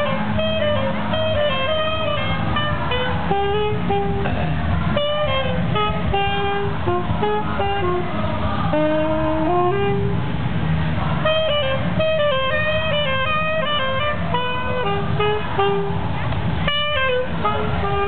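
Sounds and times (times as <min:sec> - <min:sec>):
saxophone melody: 0:00.0 - 0:10.4, 0:11.2 - 0:18.0.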